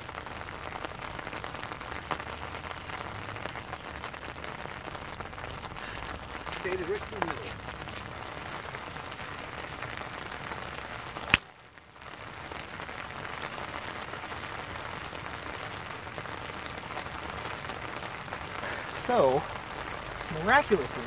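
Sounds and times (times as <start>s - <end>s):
rain hiss: 0.0s - 21.0s.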